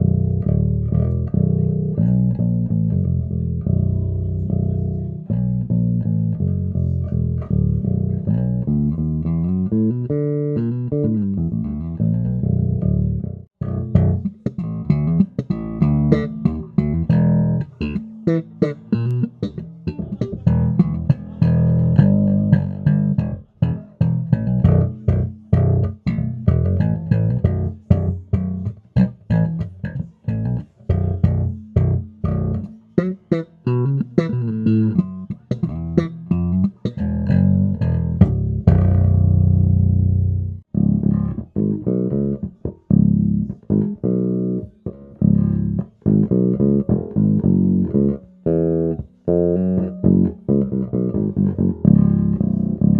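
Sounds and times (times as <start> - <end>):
electric bass playing: 0.0 - 52.9.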